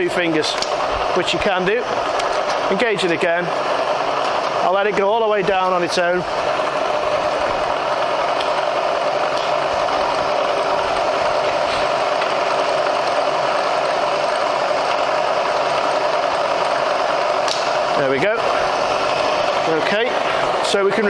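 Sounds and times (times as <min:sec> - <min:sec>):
milling machine whirring: 0:00.0 - 0:21.0.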